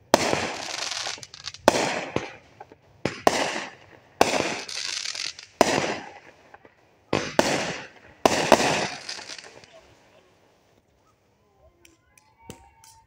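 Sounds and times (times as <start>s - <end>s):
fireworks bursting with bangs: 0.0s - 11.0s
fireworks hissing: 0.0s - 11.1s.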